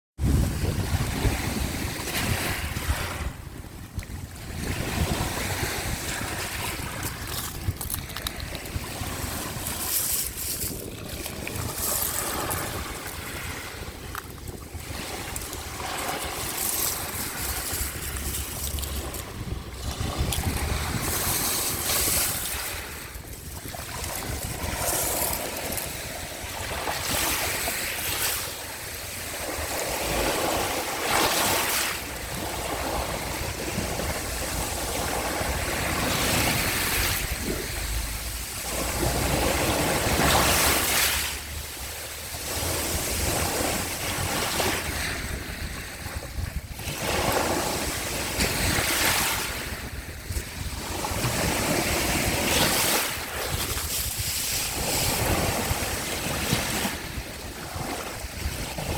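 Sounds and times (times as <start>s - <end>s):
sea waves washing onto shore: 0.2s - 58.9s
wind rumble on microphone: 0.2s - 58.9s.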